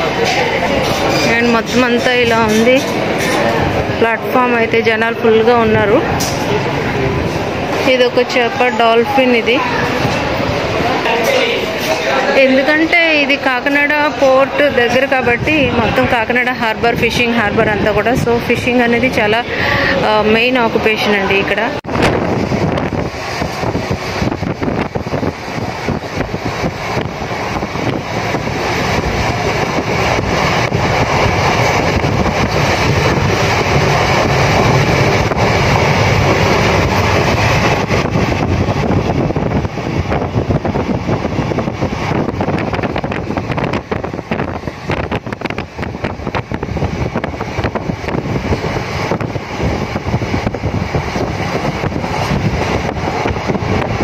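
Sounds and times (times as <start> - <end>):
train coach rumbling on rails: 0.0 - 54.0
wind buffeting microphone: 0.0 - 54.0.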